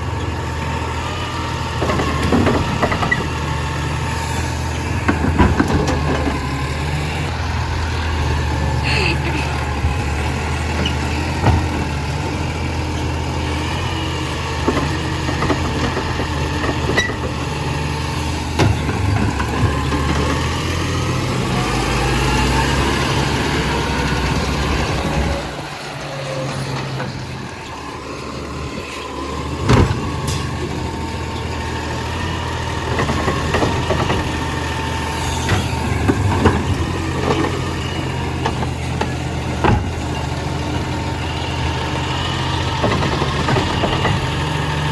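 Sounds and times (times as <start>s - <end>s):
truck engine humming: 0.0s - 44.9s.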